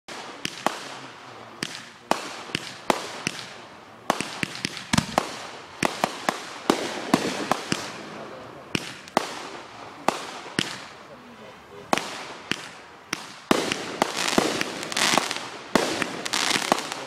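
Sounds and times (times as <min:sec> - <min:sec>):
fireworks exploding: 0:00.1 - 0:17.0
steady hiss: 0:00.1 - 0:17.0.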